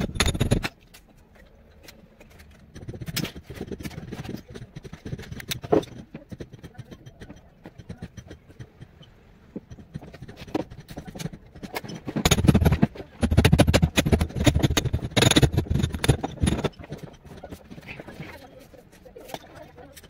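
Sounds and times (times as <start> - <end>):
scraping and knocking on plastic pipes: 0.0 - 20.0.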